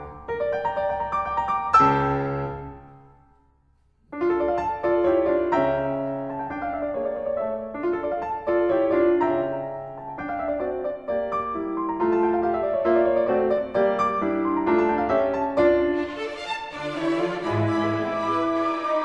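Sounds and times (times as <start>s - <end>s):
piano music: 0.0s - 3.3s, 4.1s - 19.0s.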